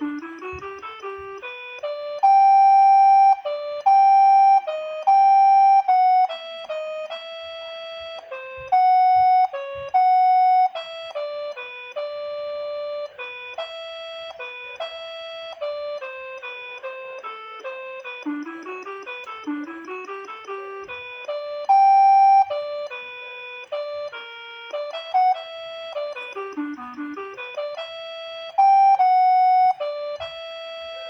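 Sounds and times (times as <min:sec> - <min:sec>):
electronic keyboard waltz melody: 0:00.0 - 0:31.0.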